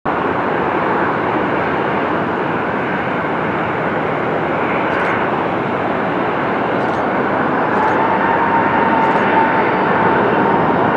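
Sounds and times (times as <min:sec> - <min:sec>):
jet engines at takeoff thrust: 0:00.1 - 0:10.9.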